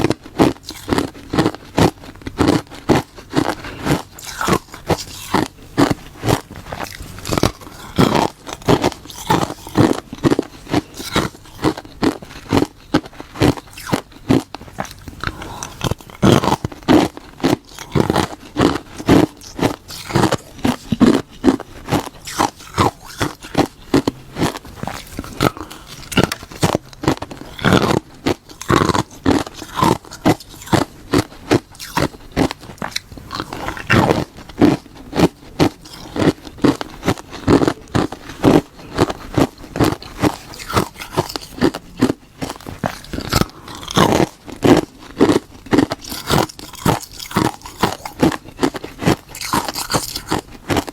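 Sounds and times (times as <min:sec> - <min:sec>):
person crunching ice: 0:00.0 - 0:50.9.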